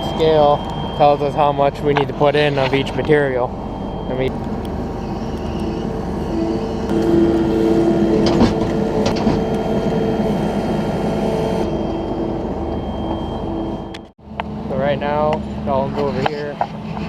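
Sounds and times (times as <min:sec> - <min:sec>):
farm machinery running: 0:00.0 - 0:17.0.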